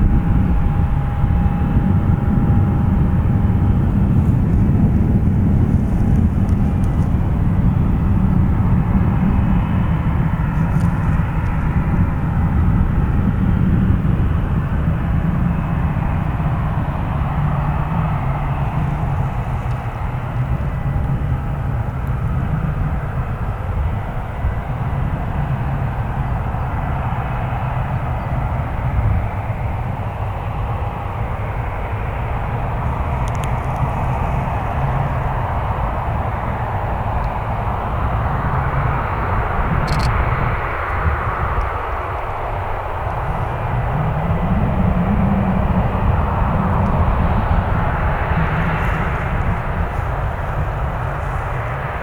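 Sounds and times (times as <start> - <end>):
airliner low rumble: 0.0 - 52.0
high jet whine: 0.0 - 52.0.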